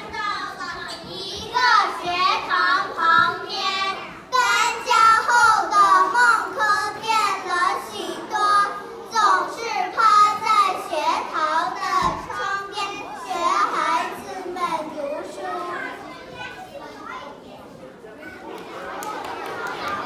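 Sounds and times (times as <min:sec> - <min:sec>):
children singing together: 0:00.0 - 0:16.2.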